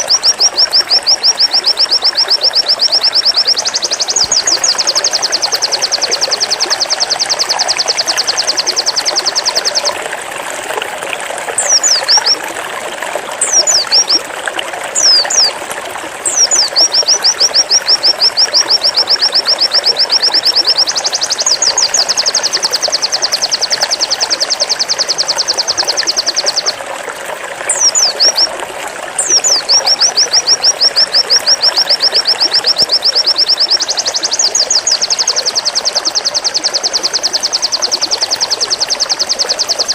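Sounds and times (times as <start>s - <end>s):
bird trilling: 0.0s - 10.0s, 11.6s - 12.4s, 13.4s - 14.3s, 14.9s - 15.6s, 16.2s - 26.8s, 27.7s - 28.6s, 29.2s - 39.9s.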